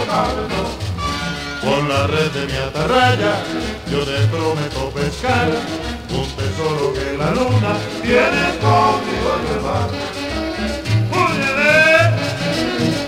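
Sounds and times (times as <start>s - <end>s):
latin dance music from vinyl: 0.0s - 13.0s.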